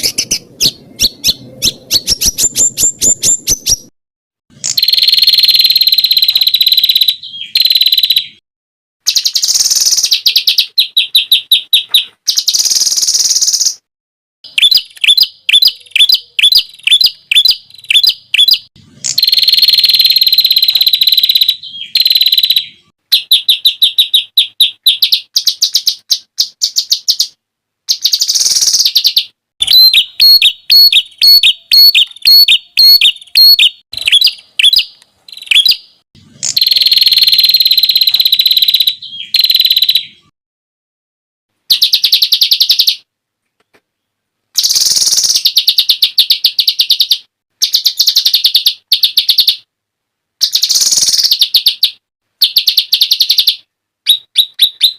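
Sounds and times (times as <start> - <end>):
songbird piercing trills: 0.0 - 3.9, 4.6 - 8.4, 9.1 - 13.8, 14.5 - 40.3, 44.6 - 49.7, 50.4 - 54.9.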